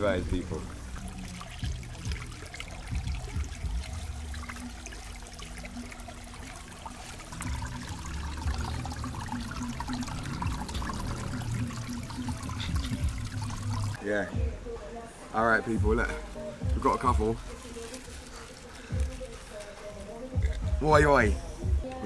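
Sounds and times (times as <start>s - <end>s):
stream water trickling over rocks: 0.0s - 14.0s, 16.3s - 22.0s.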